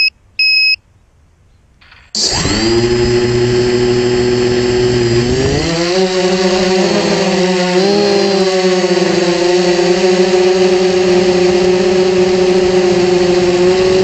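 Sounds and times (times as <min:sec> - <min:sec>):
quadcopter motors whining: 0:01.8 - 0:14.0.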